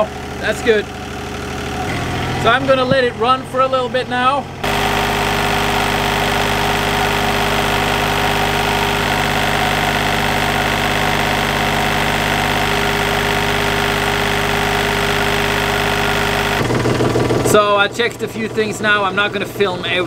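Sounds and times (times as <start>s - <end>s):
marine diesel engine idling: 0.0s - 20.0s.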